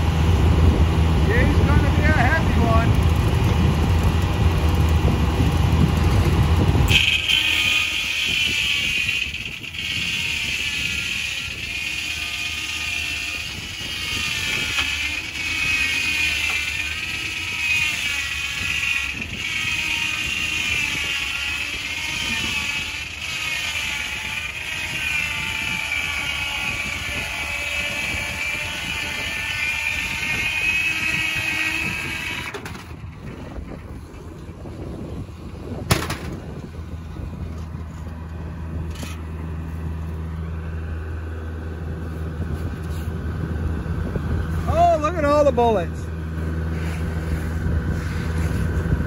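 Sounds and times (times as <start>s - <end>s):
circular saw blade whining: 0.0s - 49.0s
circular sawmill rumbling: 0.0s - 49.0s.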